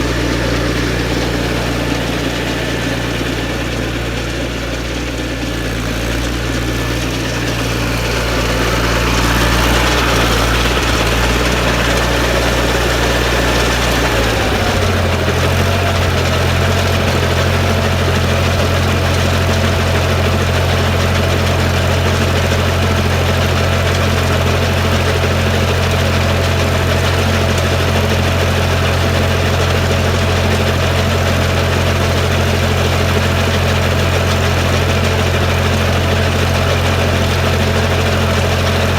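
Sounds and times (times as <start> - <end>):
garden tractor engine running: 0.0 - 38.9.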